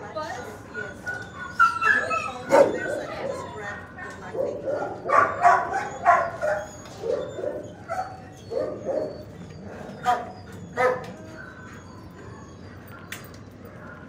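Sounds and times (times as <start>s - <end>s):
dogs barking: 0.8s - 14.0s.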